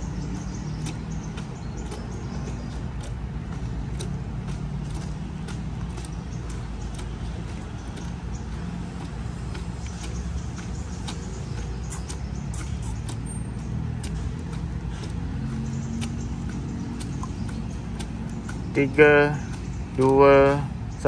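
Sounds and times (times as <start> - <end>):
distant road traffic rumble: 0.0 - 21.0
light clicks: 0.0 - 21.0.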